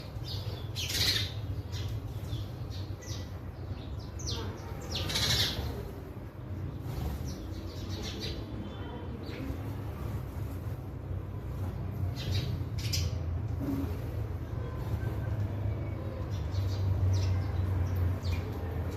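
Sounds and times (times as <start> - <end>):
sparrows chirping: 0.0 - 18.9.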